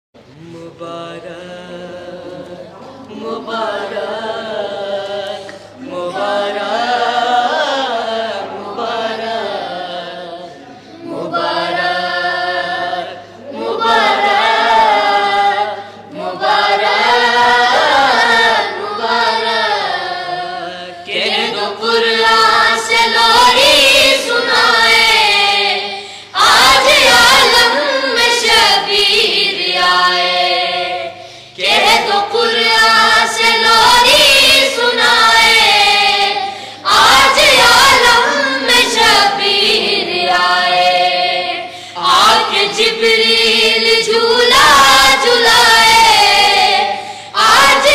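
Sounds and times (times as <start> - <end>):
boys singing in unison: 0.2 - 47.9.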